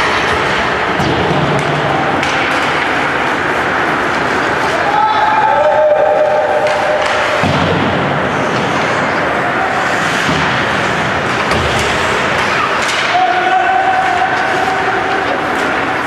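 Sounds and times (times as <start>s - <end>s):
rink and crowd noise: 0.0s - 16.0s.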